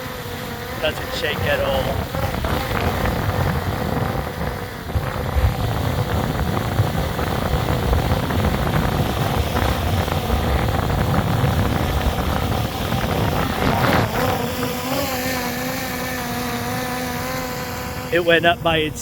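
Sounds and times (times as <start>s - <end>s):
drone propellers humming: 0.0s - 19.0s
wind buffeting microphone: 0.4s - 19.0s.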